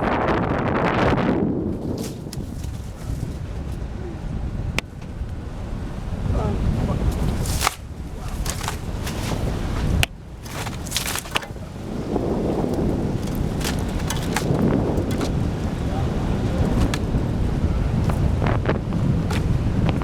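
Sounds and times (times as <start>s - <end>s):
vehicle rumbling on dirt trail: 0.0s - 20.0s
wind buffeting microphone: 0.0s - 20.0s
knocks and rattles over bumps: 1.7s - 20.0s.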